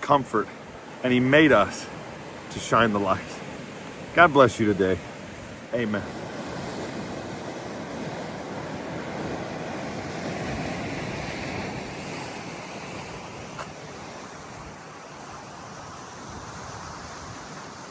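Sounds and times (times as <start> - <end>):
sea surf rushing: 0.0 - 17.9.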